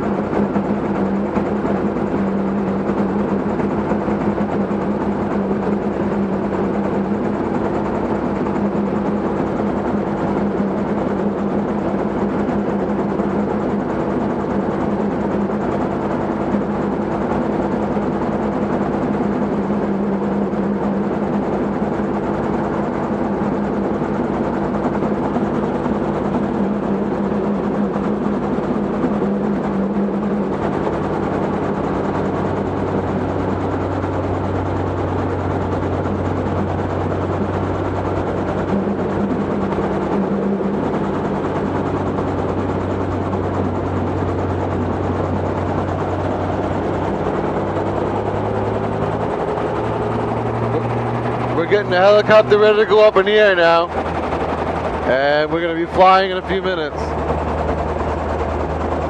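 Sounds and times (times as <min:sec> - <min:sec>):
helicopter engine and rotor droning: 0:00.0 - 0:59.0.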